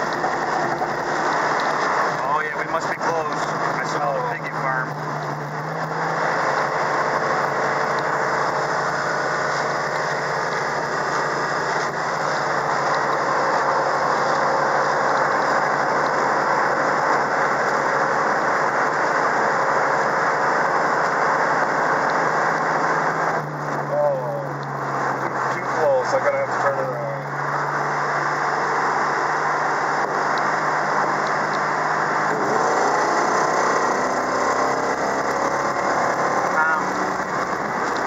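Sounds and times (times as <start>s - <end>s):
car engine running: 0.0s - 38.0s
road noise: 0.0s - 38.0s.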